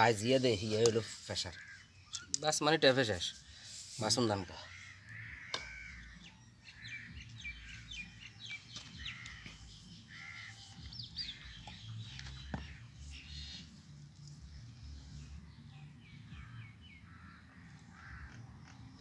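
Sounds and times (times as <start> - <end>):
birds chirping: 0.0 - 19.0
drawn-out bird calls: 0.2 - 2.4, 3.3 - 13.9, 16.3 - 19.0.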